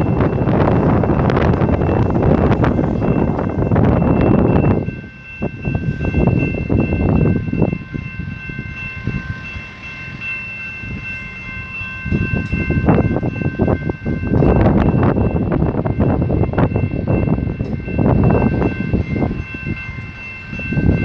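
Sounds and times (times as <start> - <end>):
train rumble: 0.0 - 21.0
wind buffeting microphone: 0.0 - 21.0.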